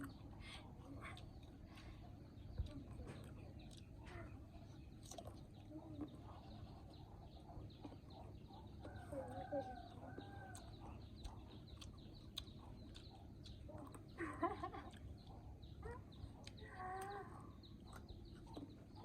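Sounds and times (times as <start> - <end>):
chickens clucking: 0.0 - 19.0
low steady hum: 0.0 - 19.0.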